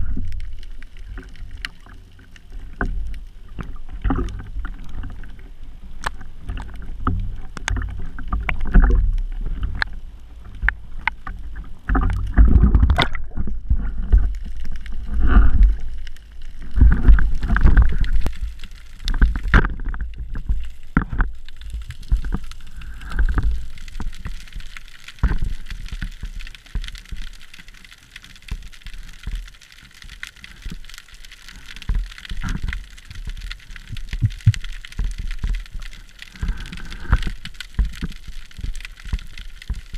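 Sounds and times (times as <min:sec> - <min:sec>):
faint crackling ticks: 0:00.0 - 0:39.9
water splashing and sloshing: 0:00.0 - 0:39.9.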